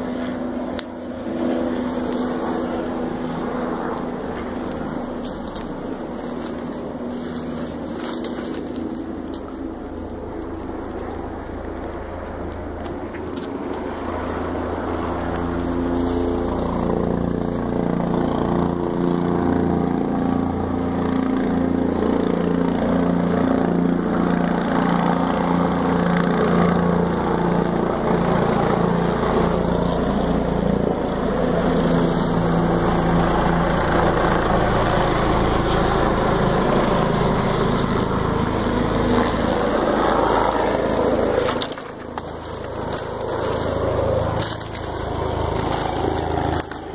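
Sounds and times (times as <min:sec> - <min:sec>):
helicopter flying low overhead: 0:00.0 - 0:46.9.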